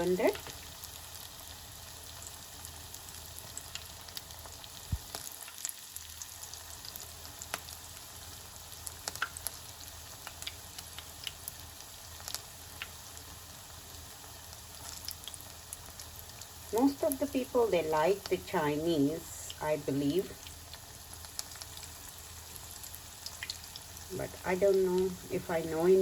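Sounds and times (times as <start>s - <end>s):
food deep-frying in hot oil: 0.0s - 26.0s
oil popping and crackling: 0.0s - 26.0s.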